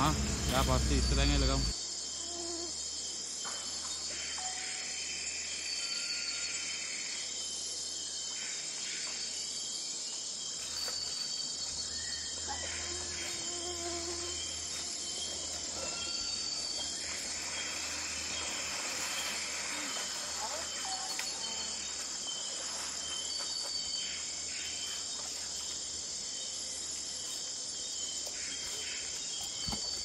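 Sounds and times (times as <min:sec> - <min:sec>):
insects chorus: 0:00.0 - 0:30.0.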